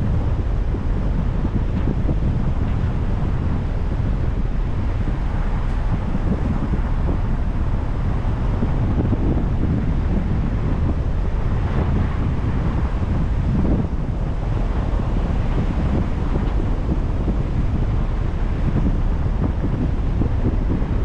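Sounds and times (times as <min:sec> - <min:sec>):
low road rumble: 0:00.0 - 0:21.0
wind buffeting microphone: 0:00.0 - 0:21.0.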